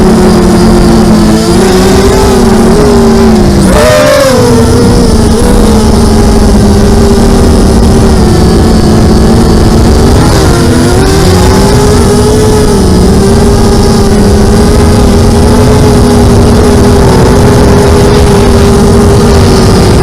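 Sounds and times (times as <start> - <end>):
drone motors buzzing: 0.0 - 20.0.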